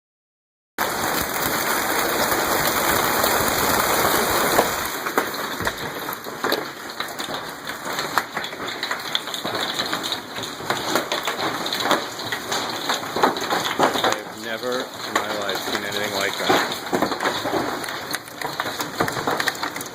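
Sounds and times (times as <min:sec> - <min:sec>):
hail and rain pelting down: 0:00.8 - 0:19.9.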